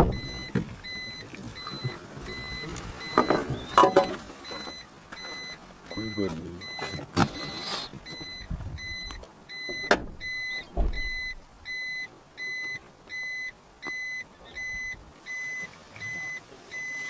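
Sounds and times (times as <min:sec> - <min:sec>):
reversing alarm beeping: 0:00.0 - 0:17.0.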